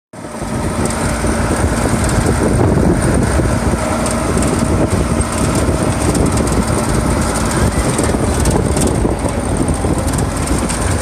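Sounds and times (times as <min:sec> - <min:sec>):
loud vehicle rumble: 0:00.1 - 0:11.0.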